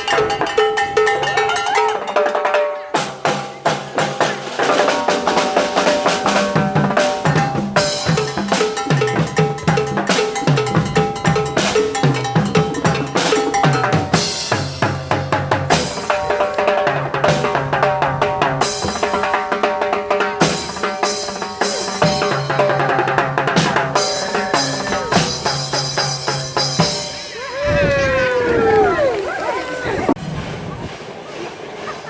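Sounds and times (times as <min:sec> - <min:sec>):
upbeat music with drums and bass: 0:00.0 - 0:28.2.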